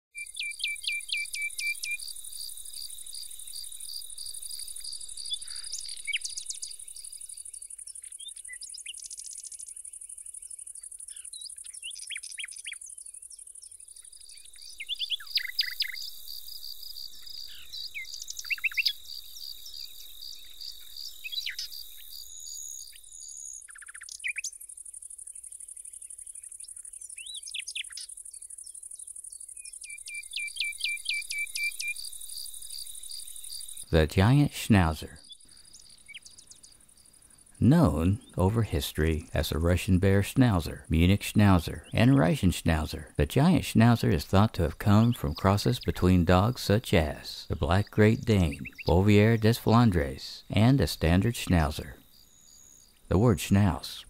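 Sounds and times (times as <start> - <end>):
bird chirps: 0.1 - 54.0
pulsing insect chirp: 0.2 - 53.8
insects trilling: 0.2 - 54.0.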